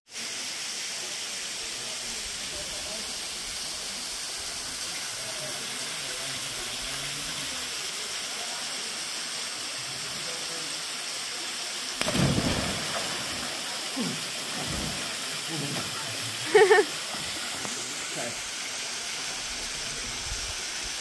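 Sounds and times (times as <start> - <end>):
rushing water hiss: 0.1 - 21.0.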